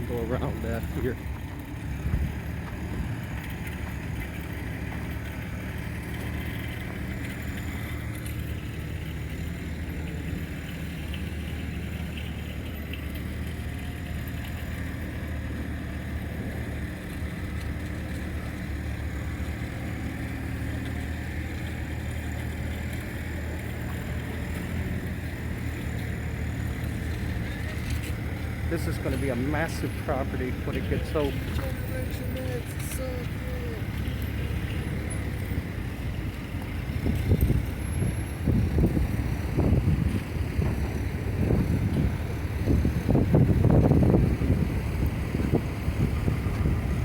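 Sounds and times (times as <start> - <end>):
city traffic rumble: 0.0 - 47.0.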